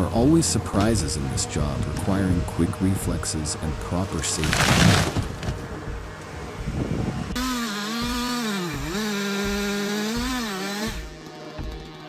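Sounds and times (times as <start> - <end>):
chainsaw engine at high revs: 0.0 - 12.0.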